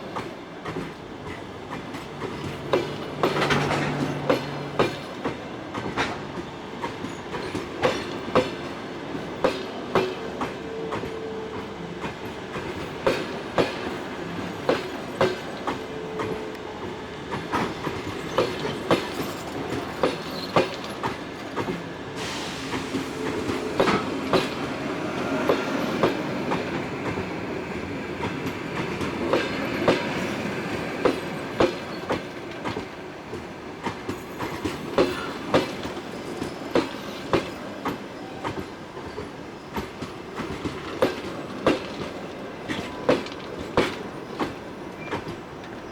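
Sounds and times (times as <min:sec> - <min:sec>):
train wheels clicking over rail joints: 0:00.1 - 0:45.9.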